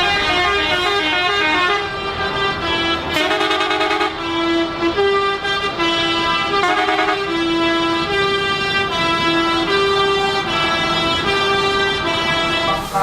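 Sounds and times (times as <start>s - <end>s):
truck musical horn playing: 0.0s - 13.0s.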